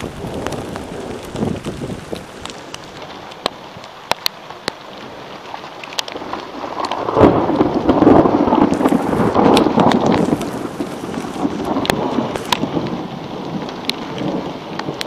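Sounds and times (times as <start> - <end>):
thunder clap rumbling: 0.0 - 3.5, 6.1 - 15.0
rain falling: 0.0 - 15.0
raindrops ticking: 0.0 - 15.0.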